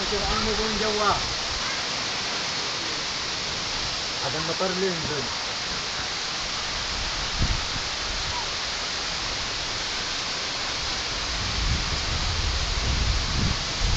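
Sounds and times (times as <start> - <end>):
heavy rain falling: 0.0 - 13.9.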